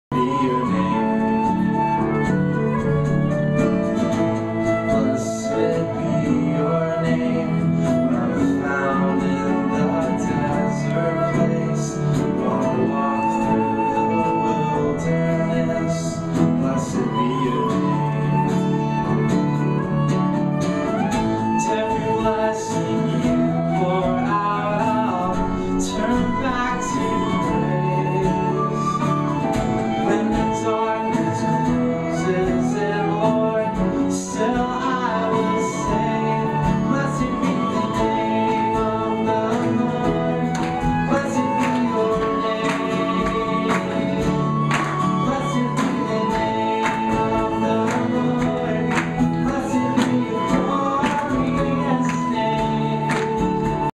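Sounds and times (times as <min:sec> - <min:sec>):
flute: 0:00.0 - 0:53.9
keyboard: 0:00.0 - 0:53.9
man singing: 0:00.0 - 0:53.9
violin: 0:00.0 - 0:53.9
strummed acoustic guitar: 0:00.1 - 0:53.9.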